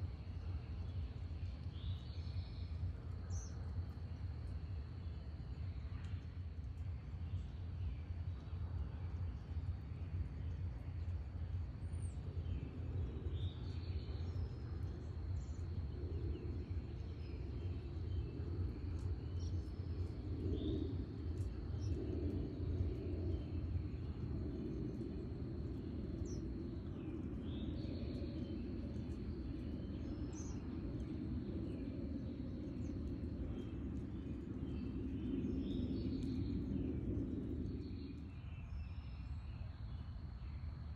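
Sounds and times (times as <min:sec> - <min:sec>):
low outdoor rumble: 0:00.0 - 0:40.9.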